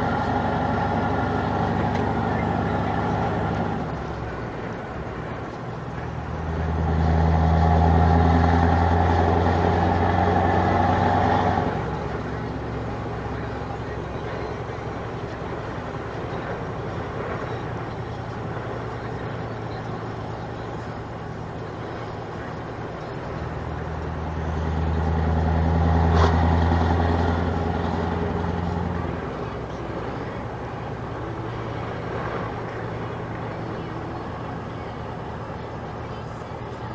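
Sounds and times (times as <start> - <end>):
truck diesel engine running: 0.0 - 36.9.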